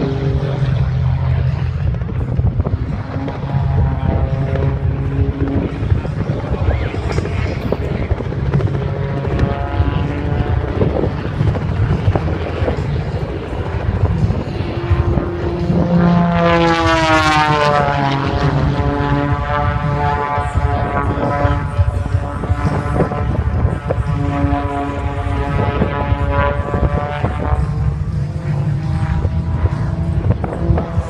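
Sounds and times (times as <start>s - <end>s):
propeller airplane flying past: 0.0s - 31.0s.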